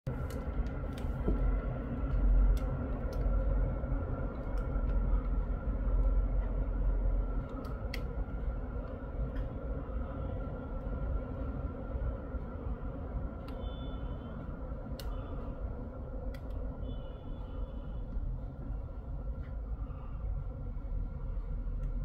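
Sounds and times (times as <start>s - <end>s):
road traffic rumbling: 0.1s - 22.0s.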